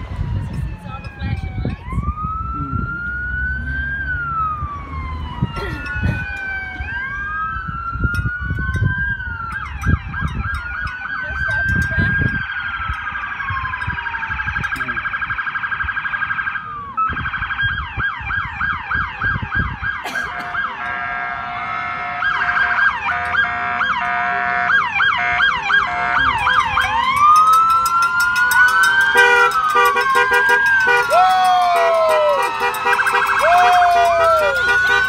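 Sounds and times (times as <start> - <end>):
police sirens wailing: 0.0 - 35.0.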